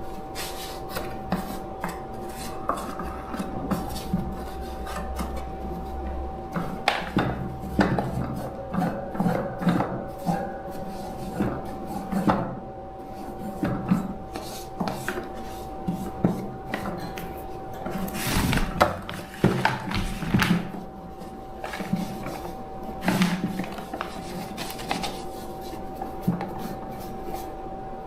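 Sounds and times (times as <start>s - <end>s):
faint high hum: 0.0s - 28.0s.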